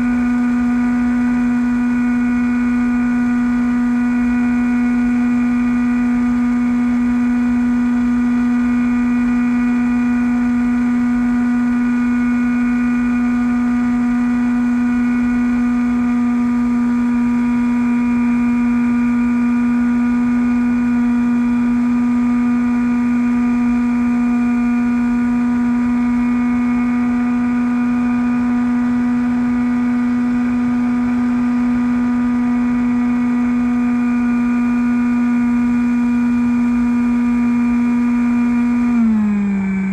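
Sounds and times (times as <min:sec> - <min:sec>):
model plane motor droning: 0:00.0 - 0:39.9.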